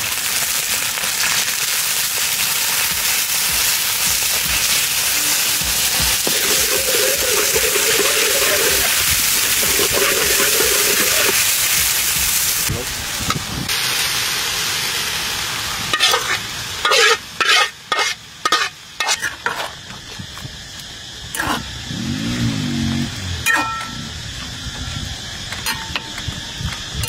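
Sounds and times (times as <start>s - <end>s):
sauce sizzling in a wok: 0.0s - 27.0s.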